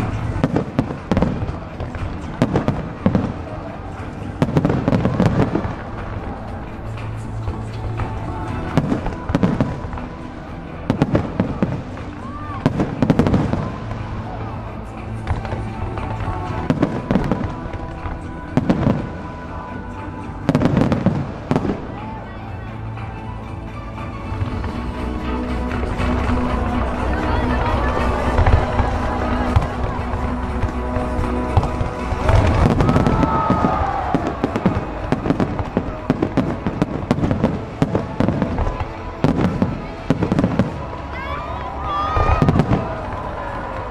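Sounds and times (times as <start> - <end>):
firework cracks and crackles: 0.0 - 22.1, 24.3 - 43.9.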